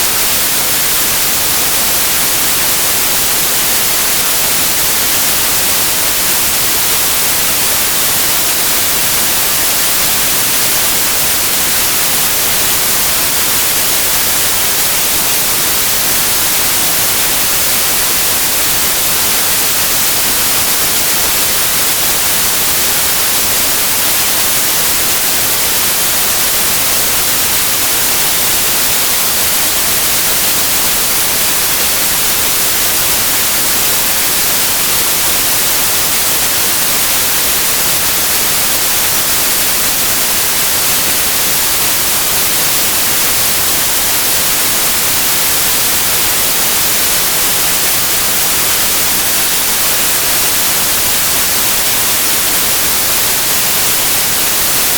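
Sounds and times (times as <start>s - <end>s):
loud steady white noise hiss: 0.0s - 54.9s.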